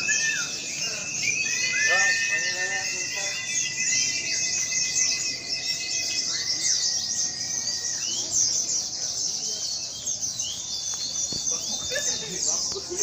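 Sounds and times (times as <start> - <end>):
bird whistled notes: 0.0 - 13.0
birds chirping in chorus: 0.0 - 13.0.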